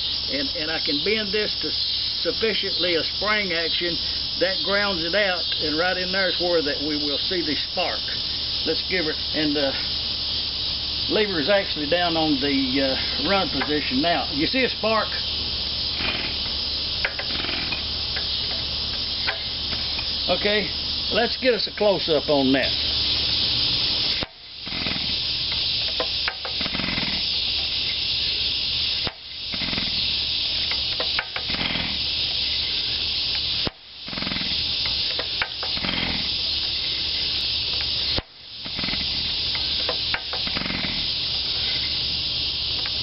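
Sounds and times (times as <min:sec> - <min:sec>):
cicadas chorus: 0:00.0 - 0:43.0.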